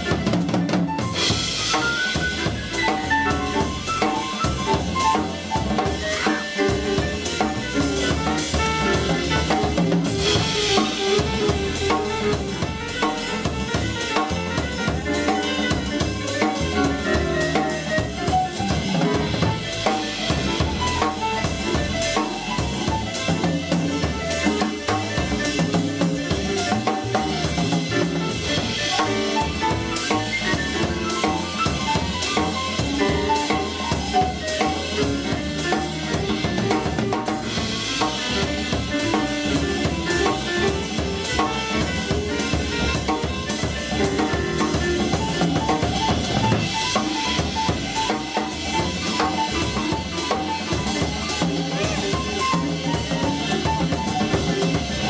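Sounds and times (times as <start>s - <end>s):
bass: 0.0s - 55.0s
drum kit with cymbals: 0.0s - 55.0s
piano solo: 0.0s - 55.0s.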